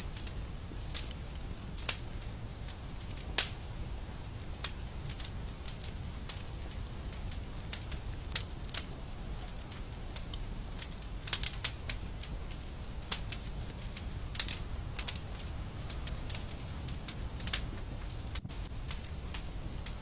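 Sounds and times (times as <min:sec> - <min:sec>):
low rumble of burning: 0:00.0 - 0:20.0
wood fire popping and snapping: 0:00.0 - 0:20.0.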